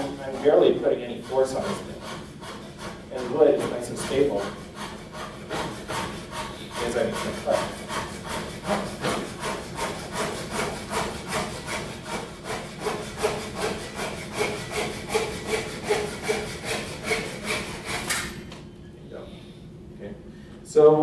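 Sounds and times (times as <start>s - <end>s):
hand saw cutting wood: 0.0s - 18.4s.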